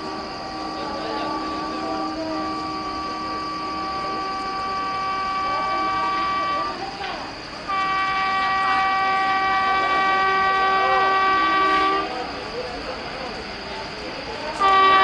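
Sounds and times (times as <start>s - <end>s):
locomotive horn blasts: 0.0s - 7.0s, 7.6s - 12.3s, 14.6s - 15.0s.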